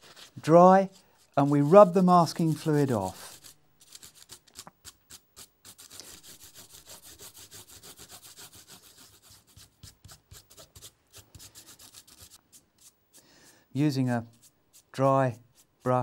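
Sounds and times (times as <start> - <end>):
fingers rubbing paper: 0.0 - 13.0.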